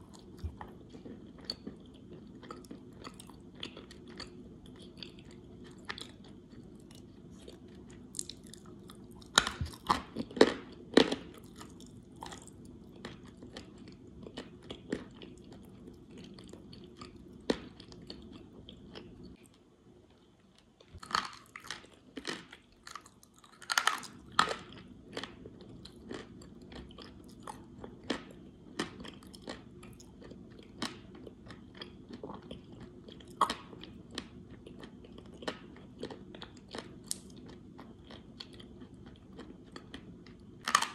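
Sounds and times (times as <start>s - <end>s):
chewing dry clay crunches: 0.0s - 19.5s, 20.5s - 40.9s.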